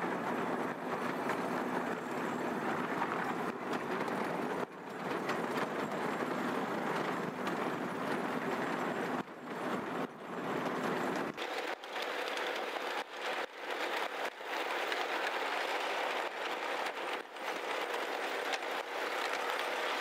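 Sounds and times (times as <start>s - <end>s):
miniature train rattling on track: 0.0s - 20.0s.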